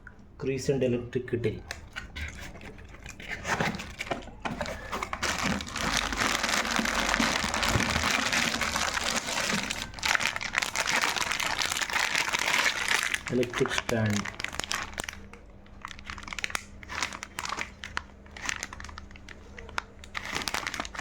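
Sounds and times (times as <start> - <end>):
wrapping crinkling: 1.8 - 21.0
packaging rustling: 1.9 - 21.0.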